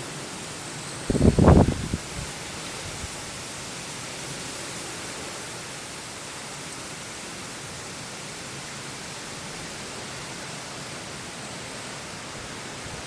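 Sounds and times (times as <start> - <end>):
heavy rain and strong wind: 0.0 - 13.0.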